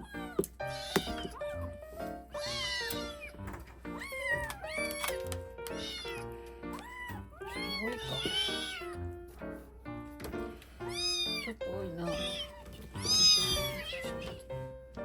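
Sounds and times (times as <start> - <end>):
kittens meowing: 0.0 - 9.2, 10.8 - 14.8
light background music: 0.0 - 15.0.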